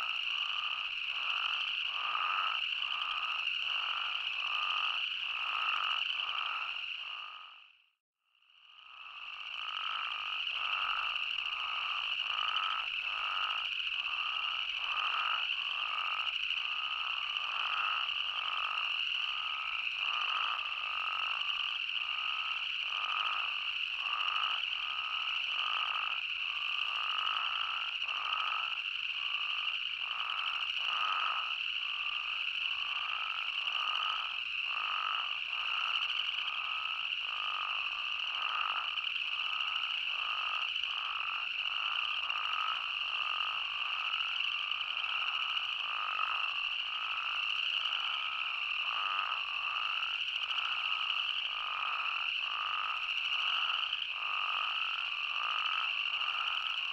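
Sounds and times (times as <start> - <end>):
toads calling in chorus: 0.0 - 7.6, 9.2 - 56.9.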